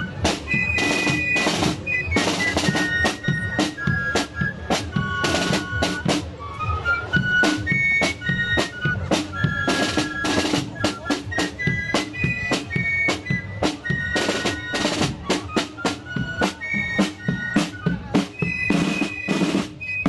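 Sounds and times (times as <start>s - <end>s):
snare drum beats and rolls: 0.0s - 20.0s.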